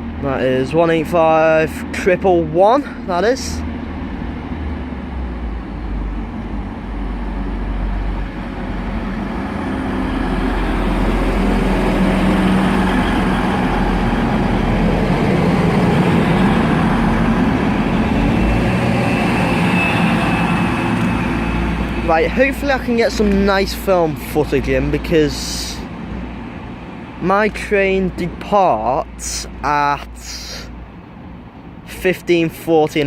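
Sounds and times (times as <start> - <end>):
diesel train engine rumbling: 0.0 - 33.0.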